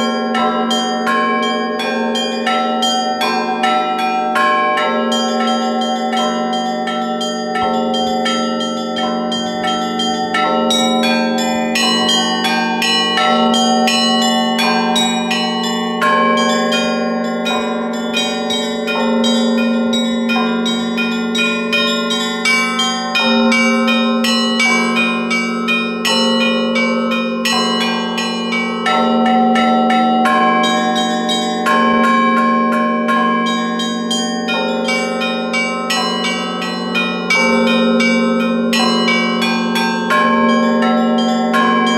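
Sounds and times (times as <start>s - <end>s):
small bells chiming rapidly: 0.0s - 41.9s.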